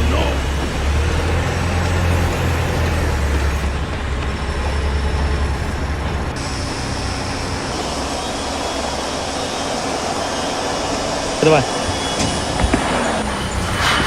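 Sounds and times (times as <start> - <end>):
engine drone: 0.0 - 14.0
mechanical noise: 0.0 - 14.0.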